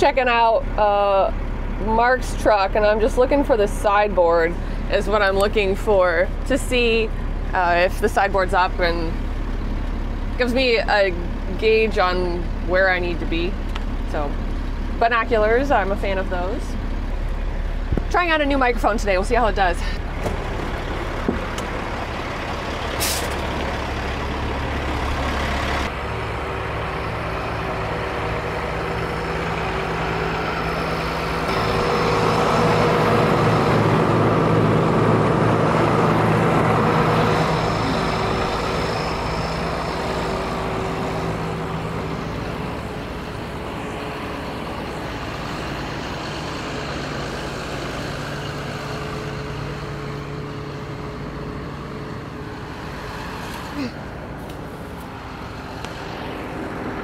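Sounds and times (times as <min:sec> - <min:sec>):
truck engine driving: 0:00.0 - 0:57.0.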